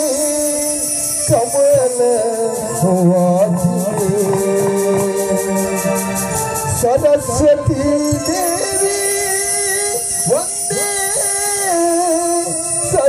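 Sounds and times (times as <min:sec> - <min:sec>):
electronic organ chords: 0:00.0 - 0:13.0
person singing: 0:00.0 - 0:13.0.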